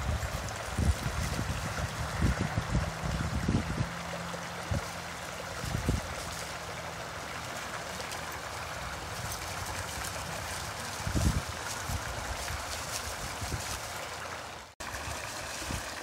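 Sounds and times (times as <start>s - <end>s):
brook trickling: 0.0s - 16.0s.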